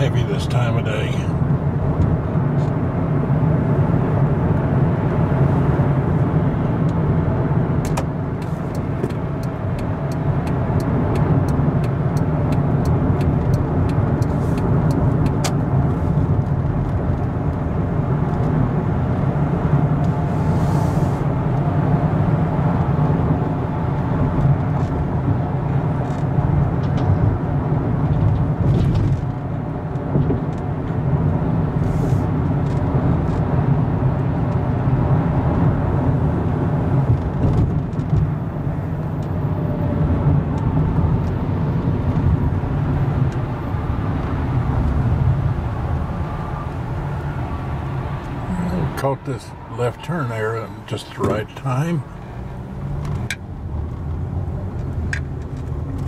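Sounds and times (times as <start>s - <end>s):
car interior road noise: 0.0s - 56.0s.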